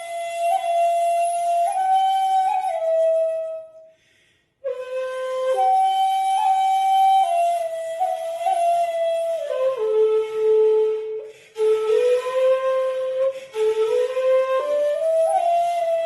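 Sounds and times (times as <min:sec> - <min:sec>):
flute playing slow melody: 0:00.0 - 0:03.9, 0:04.6 - 0:16.0.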